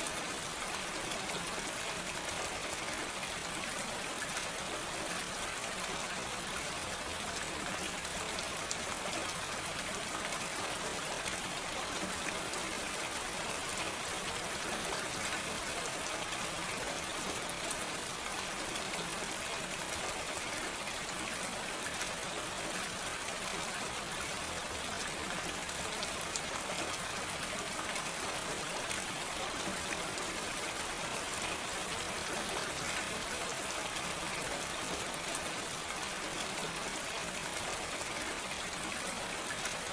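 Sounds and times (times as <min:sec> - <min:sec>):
steady gentle rain: 0:00.0 - 0:39.9.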